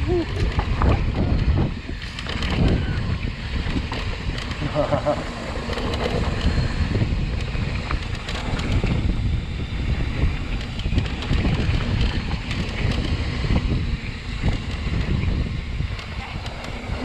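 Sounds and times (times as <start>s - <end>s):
bike clicks and rattles: 0.0s - 17.0s
bike rumble: 0.0s - 17.0s
wind buffeting microphone: 0.0s - 17.0s.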